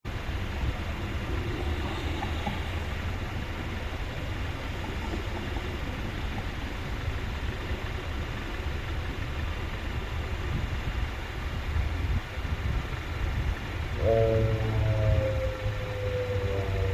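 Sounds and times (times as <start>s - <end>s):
low outdoor rumble: 0.1s - 16.9s.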